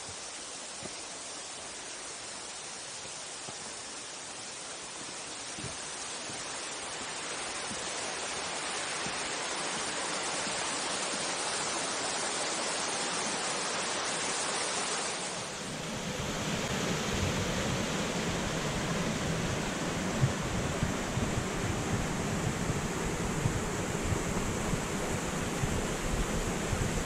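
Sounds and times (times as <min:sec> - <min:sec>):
stream and waterfall rushing: 0:00.0 - 0:27.0.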